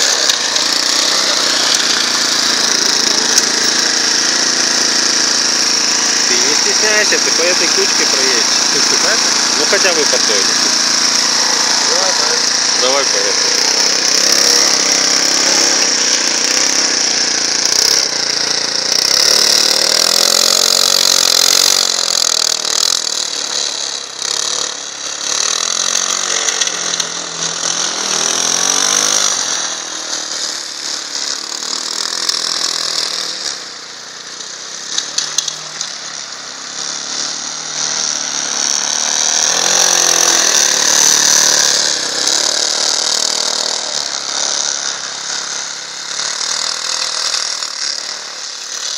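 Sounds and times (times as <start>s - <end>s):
minibike engine revving: 0.0s - 48.9s.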